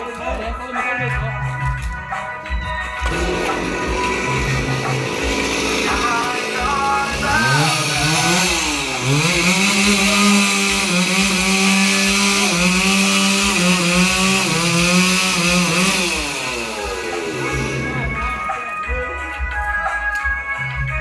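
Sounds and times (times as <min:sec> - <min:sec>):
chainsaw cutting wood: 0:01.0 - 0:18.6.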